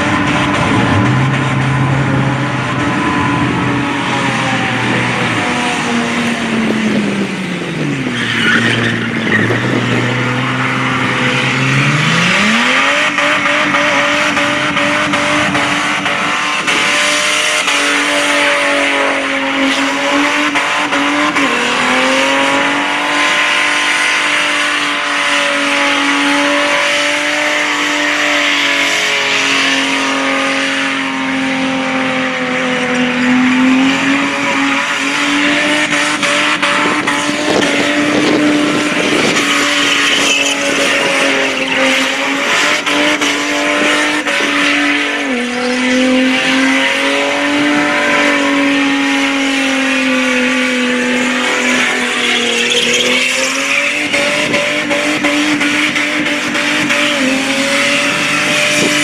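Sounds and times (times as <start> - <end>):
car engine revving: 0.0 - 59.0
tyres spinning and squealing: 0.0 - 59.0.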